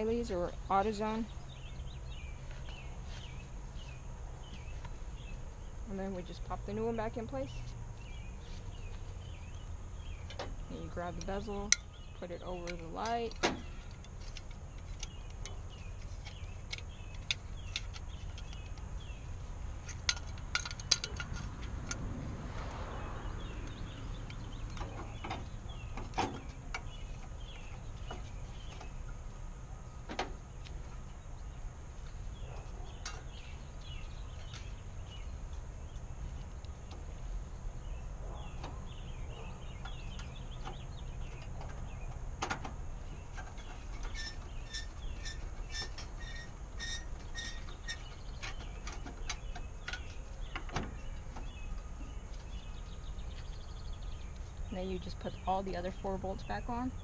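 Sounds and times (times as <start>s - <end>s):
birds chirping faintly: 0.0s - 57.0s
low steady rumble: 0.0s - 57.0s.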